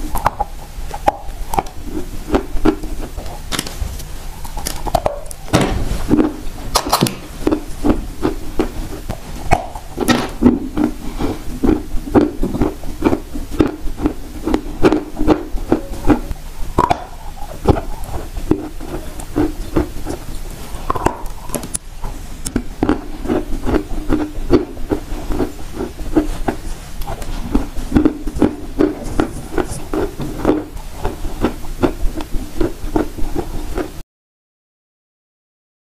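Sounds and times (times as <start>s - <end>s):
wet chewing thumps: 0.0s - 34.0s.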